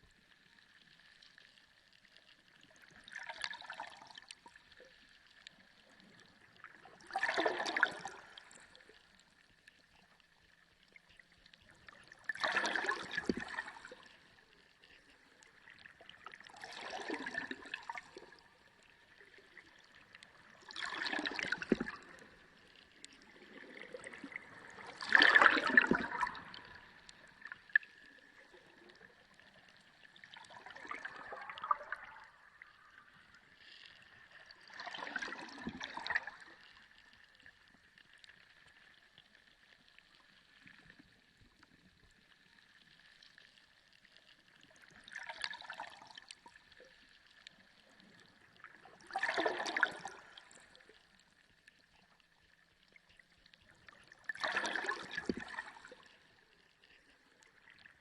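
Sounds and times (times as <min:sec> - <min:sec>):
underwater water swells: 0:00.0 - 0:58.0.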